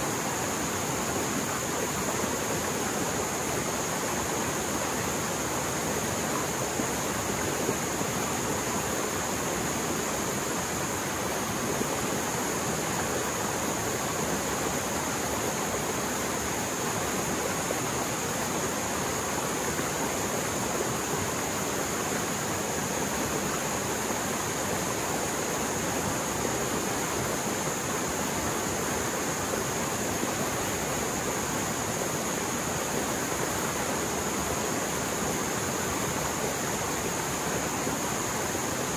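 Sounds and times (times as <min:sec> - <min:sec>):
stream rushing water: 0:00.0 - 0:38.9.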